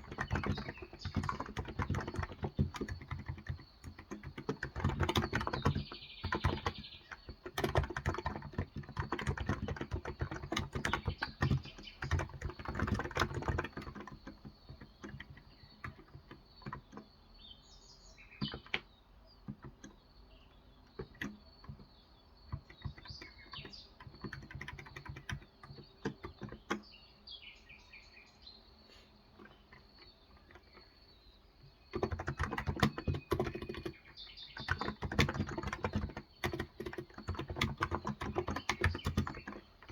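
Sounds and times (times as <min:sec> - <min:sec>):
keyboard typing: 0:00.0 - 0:17.2, 0:18.4 - 0:20.0, 0:20.6 - 0:26.9, 0:29.3 - 0:31.0, 0:31.6 - 0:39.9
birds chirping: 0:00.0 - 0:39.9.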